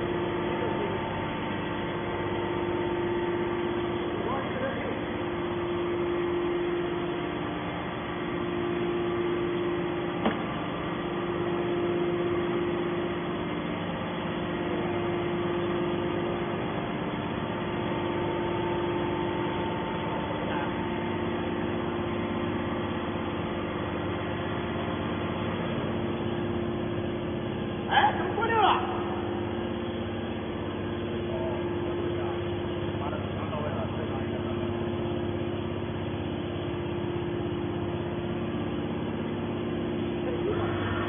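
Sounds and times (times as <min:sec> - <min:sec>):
hydraulic pump motor humming: 0:00.0 - 0:41.0.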